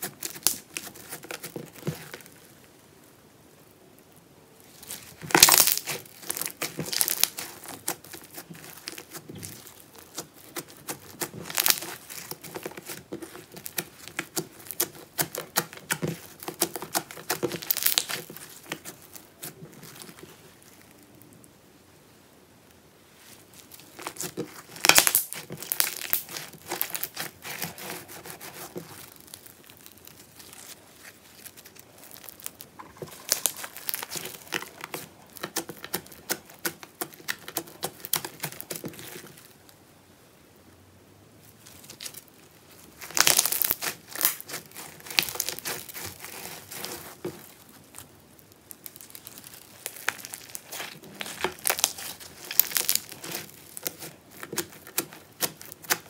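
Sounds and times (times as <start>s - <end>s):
slime beads crackling: 0.0s - 2.7s, 4.6s - 21.2s, 23.4s - 39.7s, 41.6s - 56.0s.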